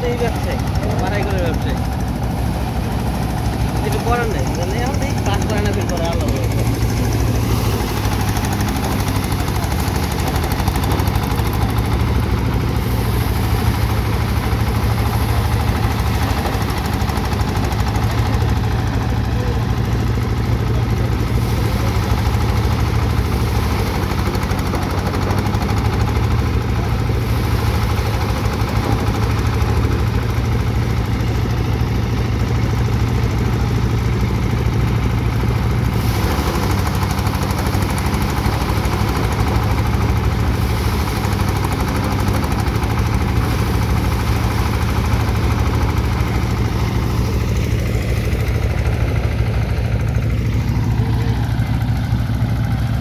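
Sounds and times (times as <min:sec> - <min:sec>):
thresher engine rumbling: 0:00.0 - 0:53.0.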